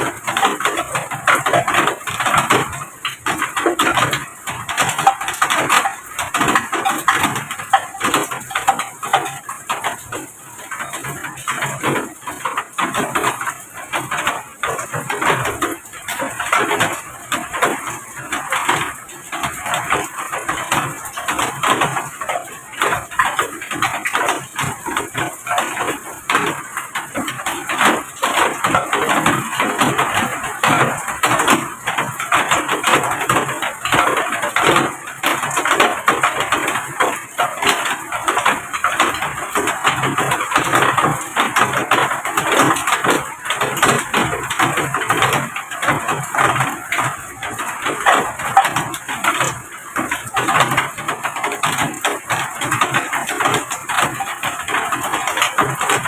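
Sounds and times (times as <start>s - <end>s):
heavy rain on a hard surface: 0.0s - 56.0s.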